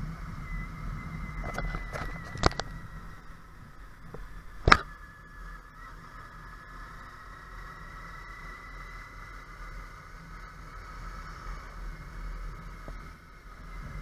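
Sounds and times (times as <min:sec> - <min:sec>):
faint steady whine: 0:00.0 - 0:14.0
vehicle engine and road rumble: 0:00.0 - 0:14.0.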